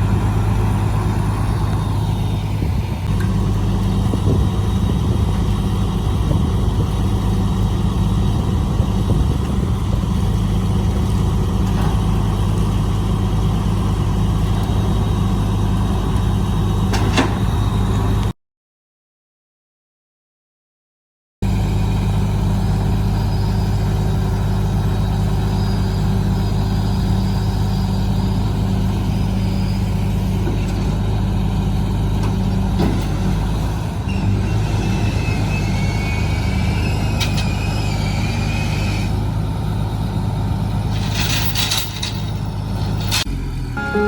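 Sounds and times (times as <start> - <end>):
truck engine idling: 0.0 - 18.3, 21.4 - 44.0.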